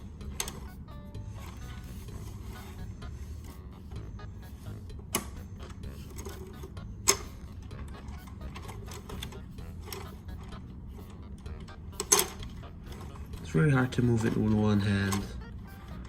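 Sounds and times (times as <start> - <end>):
steady low hum: 0.0 - 14.4
plastic gears ticking: 0.0 - 16.0.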